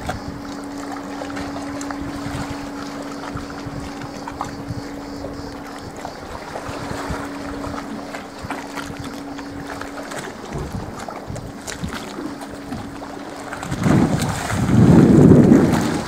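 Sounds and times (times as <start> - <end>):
small waves lapping on concrete: 0.0 - 16.0
steady low hum: 0.0 - 16.0
wind buffeting microphone: 0.0 - 16.0.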